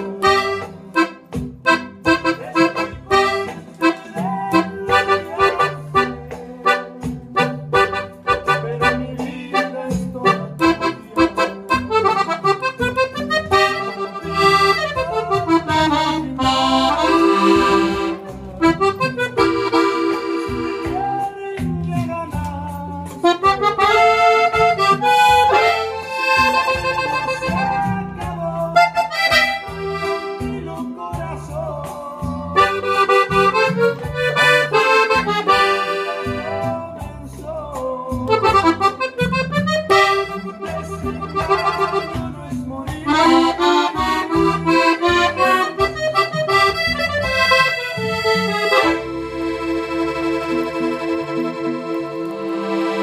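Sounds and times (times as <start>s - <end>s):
button accordion playing: 0.0s - 21.5s, 23.1s - 31.0s, 32.5s - 37.0s, 38.2s - 53.0s.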